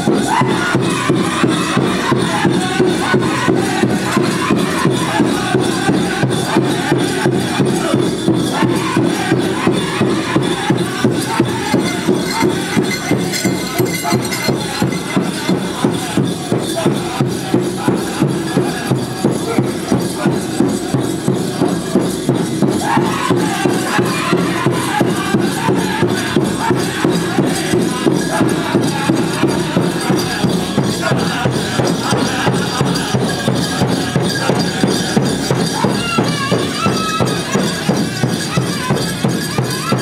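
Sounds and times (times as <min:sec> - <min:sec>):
drum group singing: 0:00.0 - 0:40.0
steady drumbeat: 0:00.0 - 0:40.0.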